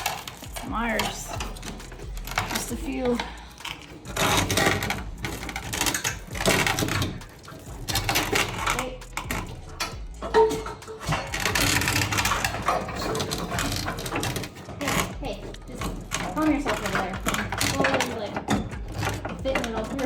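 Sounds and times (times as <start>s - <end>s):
metallic clattering and rattling: 0.0s - 20.0s.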